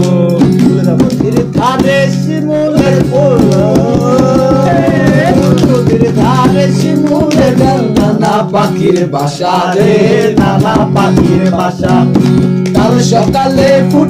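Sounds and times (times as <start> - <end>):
instrumental backing with beat: 0.0 - 14.0
person singing: 0.0 - 14.0.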